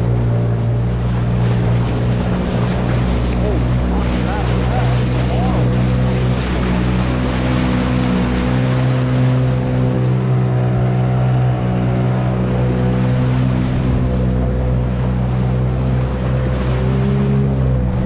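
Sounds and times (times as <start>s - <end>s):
boat motor humming: 0.0s - 18.0s
water rushing along hull: 0.0s - 18.0s.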